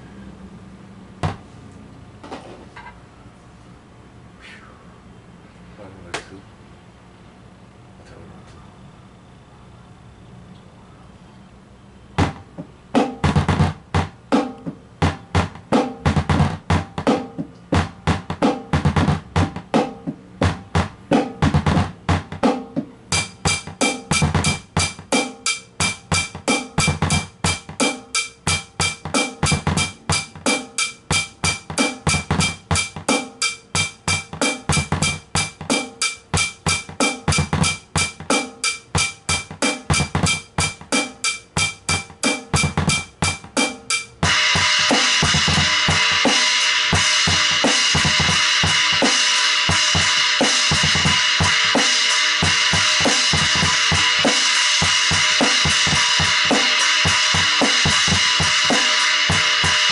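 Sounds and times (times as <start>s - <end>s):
drum kit groove: 1.1s - 1.5s, 12.2s - 59.9s.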